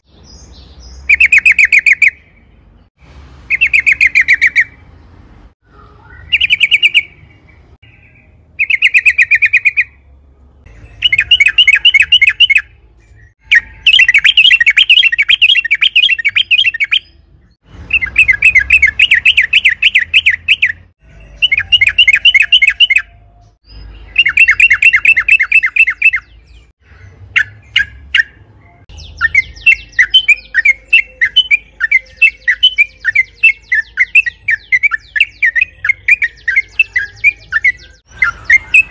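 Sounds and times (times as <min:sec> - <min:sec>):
bird singing fast chattering notes: 0:00.0 - 0:02.4, 0:03.5 - 0:04.8, 0:06.1 - 0:10.0, 0:10.6 - 0:38.9.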